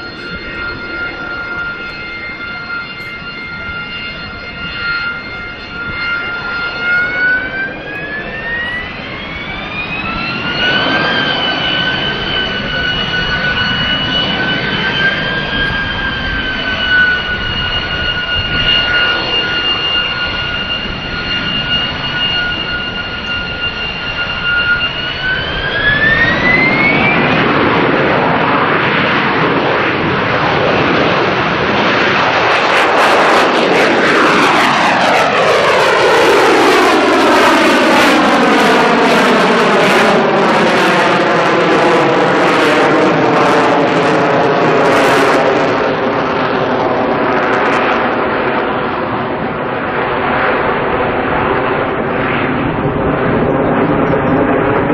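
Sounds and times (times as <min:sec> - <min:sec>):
jet engine whining and roaring: 0:00.0 - 0:54.9.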